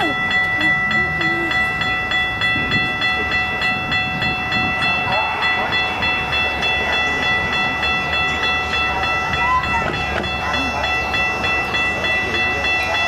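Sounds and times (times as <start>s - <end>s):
crossing bell ringing: 0.0s - 13.0s
train wheels rumbling on track: 0.0s - 13.0s.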